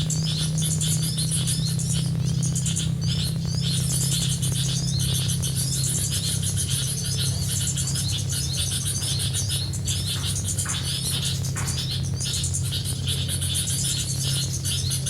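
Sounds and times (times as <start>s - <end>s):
background music with low drone: 0.0s - 15.0s
small birds chirping: 0.0s - 15.0s.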